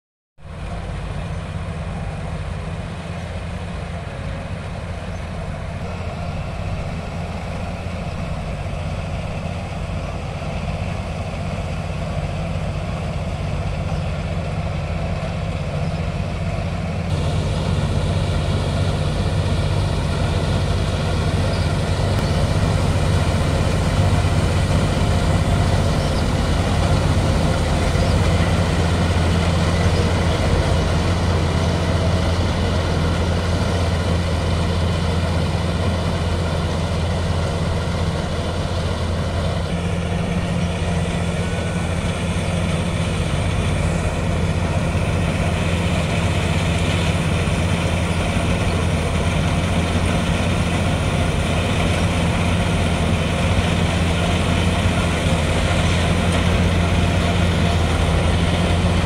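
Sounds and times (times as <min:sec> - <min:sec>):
combine harvester cutting crop: 0:00.4 - 0:59.0
tractor diesel engine running: 0:00.4 - 0:59.0.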